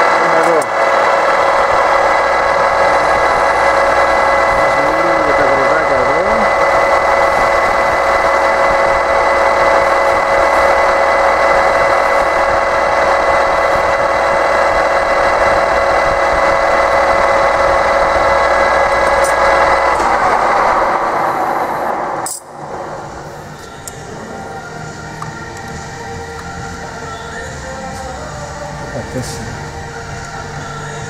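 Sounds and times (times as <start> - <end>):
metal lathe whining: 0.0 - 31.0.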